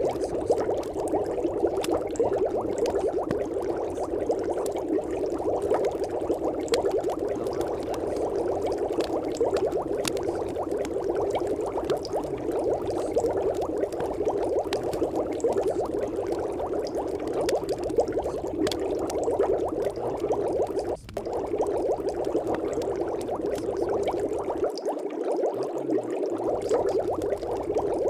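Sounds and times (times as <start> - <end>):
bubbling crackling noise: 0.0 - 28.0.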